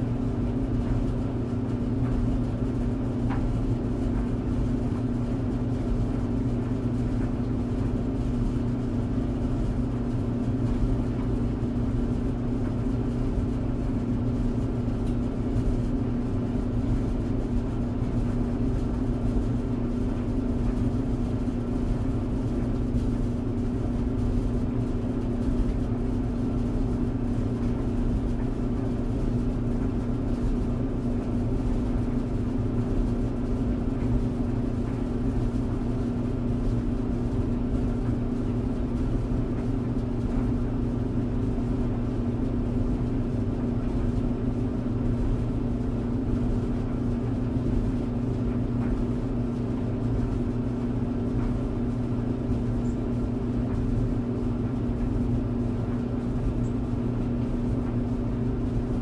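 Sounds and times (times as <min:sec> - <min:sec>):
tumble dryer running: 0:00.0 - 0:59.0.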